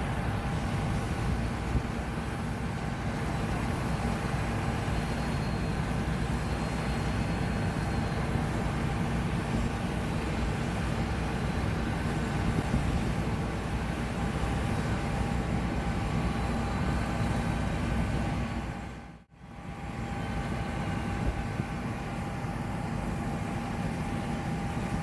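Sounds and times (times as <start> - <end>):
combine harvester drone: 0.0 - 25.0
faint steady whine: 0.0 - 25.0.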